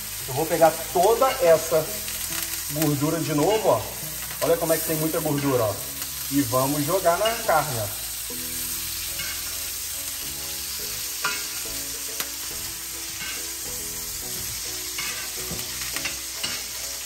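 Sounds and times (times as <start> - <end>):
steak sizzling in a pan: 0.0 - 17.0.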